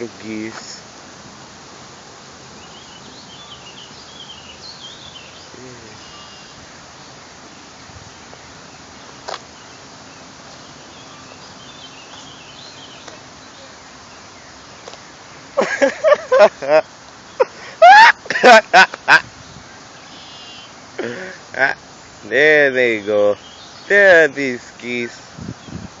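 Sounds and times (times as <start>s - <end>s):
songbirds chirping and warbling: 0.0s - 26.0s
steady outdoor hiss: 0.0s - 26.0s.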